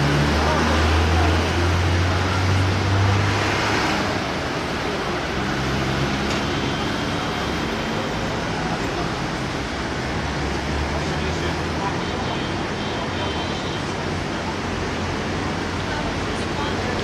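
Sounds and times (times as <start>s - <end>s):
passing cars: 0.0s - 17.0s.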